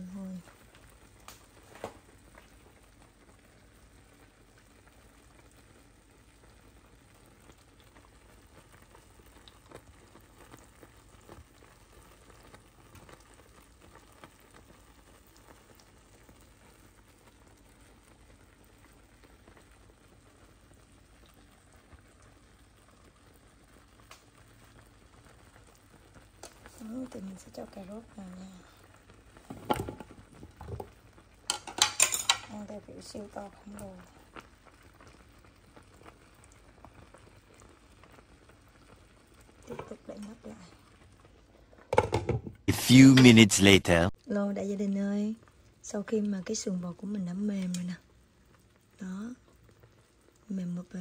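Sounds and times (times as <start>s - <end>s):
liquid bubbling in a pan: 0.0s - 42.7s, 44.2s - 51.0s.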